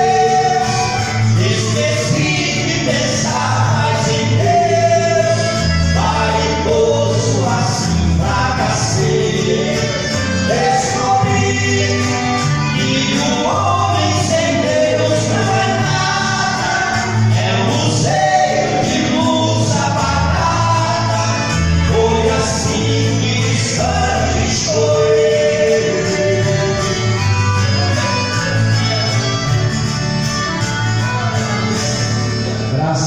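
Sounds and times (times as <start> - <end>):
voices singing gospel song: 0.0 - 29.3
instrumental backing with bass: 0.0 - 33.0.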